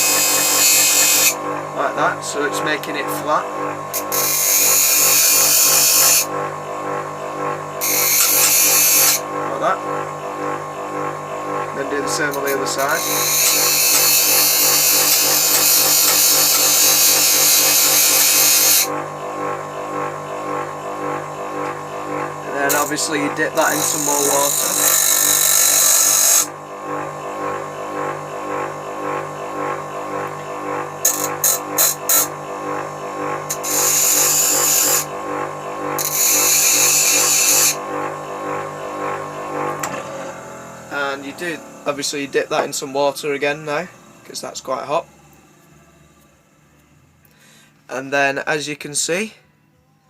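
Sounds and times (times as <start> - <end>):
grinder wheel grinding steel: 0.0 - 46.0
grinder motor hum: 0.0 - 48.0.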